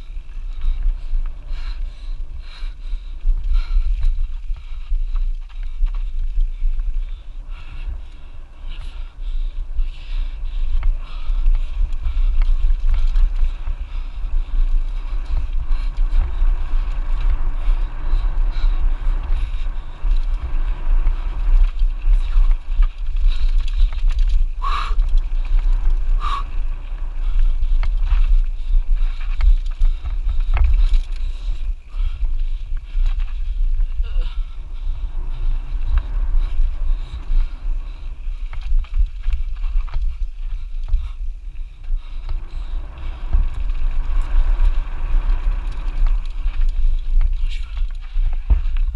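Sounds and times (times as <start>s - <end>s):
mountain bike rumble and rattle: 0.0s - 48.9s
wind buffeting microphone: 0.0s - 48.9s.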